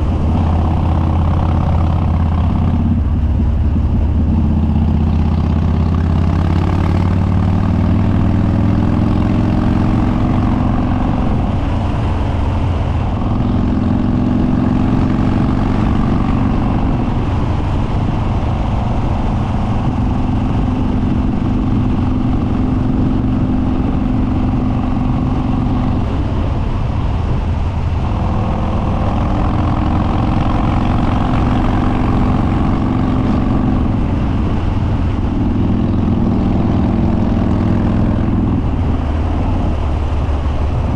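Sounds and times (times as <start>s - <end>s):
loud motorcycle engine: 0.0s - 40.9s.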